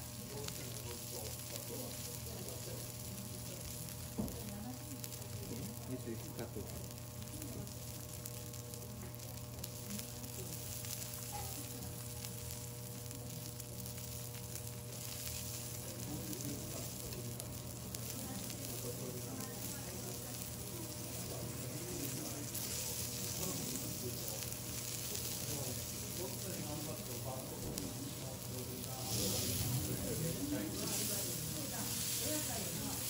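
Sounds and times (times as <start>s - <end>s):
beef sizzling on a griddle: 0.0s - 33.0s.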